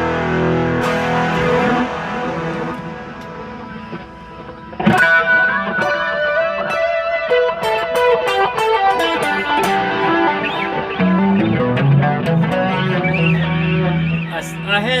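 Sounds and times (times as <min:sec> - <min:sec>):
clean electric guitar melody: 0:00.0 - 0:14.8.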